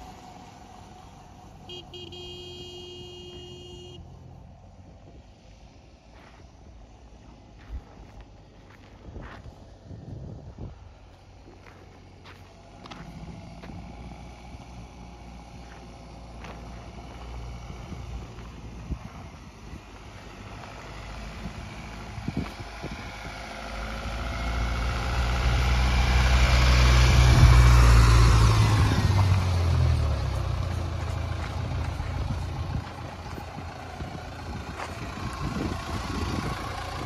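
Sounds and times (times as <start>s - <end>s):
diesel engine passing: 0.0s - 37.0s
tyres on dirt track: 0.0s - 37.0s.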